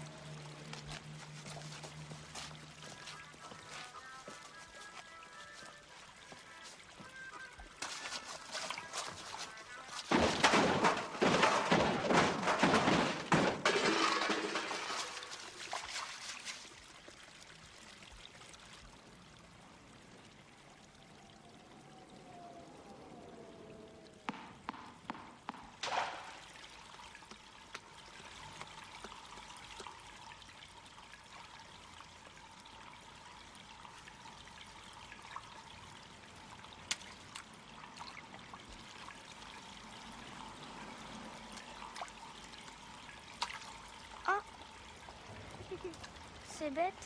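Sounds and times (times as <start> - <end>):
faint running water: 0.0 - 47.0.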